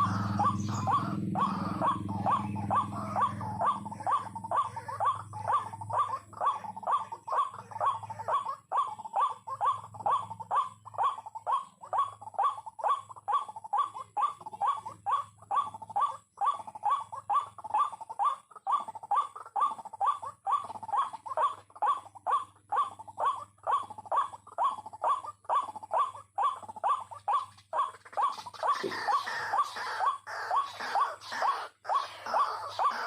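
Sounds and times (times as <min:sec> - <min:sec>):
waterhen croaking calls: 0:00.0 - 0:33.0.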